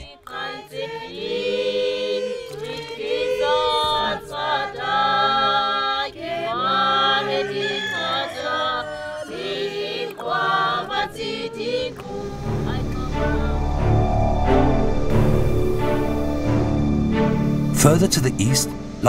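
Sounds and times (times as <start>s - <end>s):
group of voices singing: 0.0s - 18.6s.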